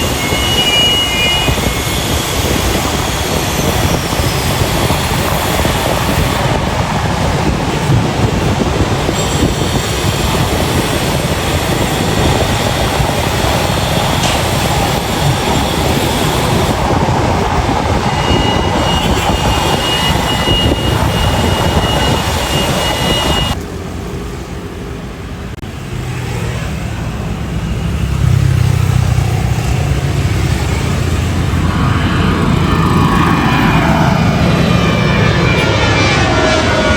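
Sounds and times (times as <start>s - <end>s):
jet engine noise: 0.0s - 36.9s.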